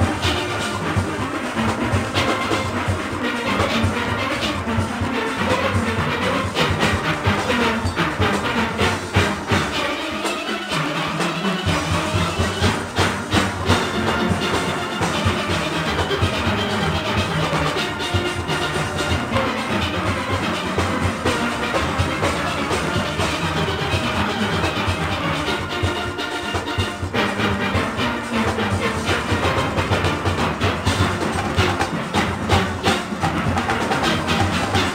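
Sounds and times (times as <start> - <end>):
drum kit and percussion: 0.0 - 34.9
massed steelpans: 0.0 - 34.9.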